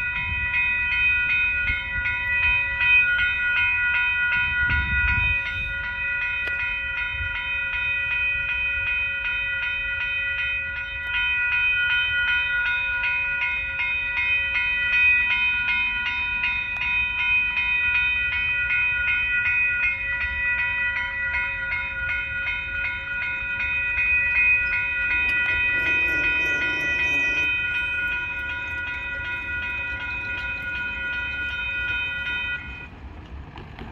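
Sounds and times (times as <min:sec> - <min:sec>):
crossing warning bell ringing: 0:00.0 - 0:33.8.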